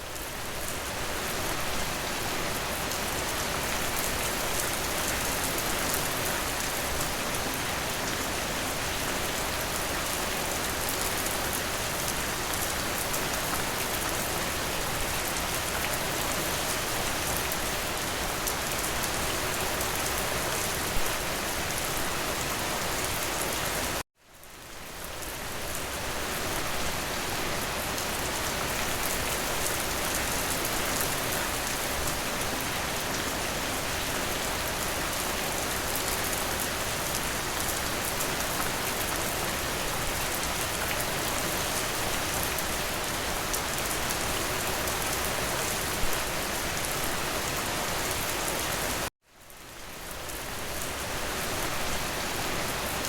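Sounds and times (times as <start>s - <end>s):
rain patter: 0.0s - 53.0s.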